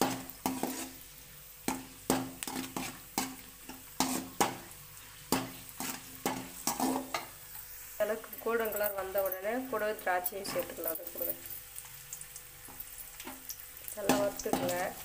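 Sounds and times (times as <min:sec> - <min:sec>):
metal spoon scraping pan: 0:00.0 - 0:09.4, 0:10.3 - 0:11.6, 0:12.7 - 0:15.0
nuts sizzling in oil: 0:00.0 - 0:15.0.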